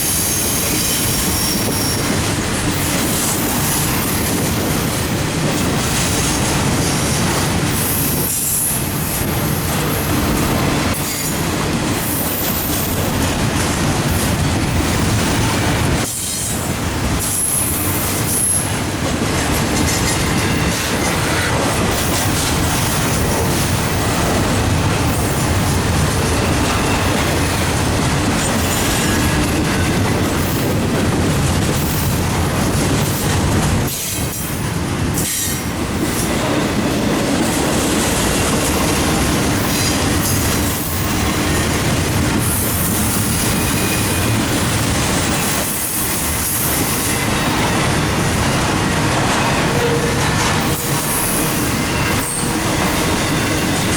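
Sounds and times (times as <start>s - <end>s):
steel wheels on rail: 0.0s - 53.9s.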